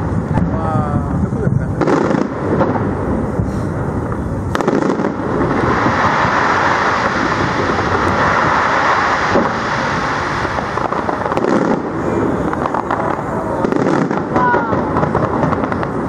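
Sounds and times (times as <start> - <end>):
fireworks crackling: 0.0 - 16.0
sharp firework bangs: 0.0 - 16.0.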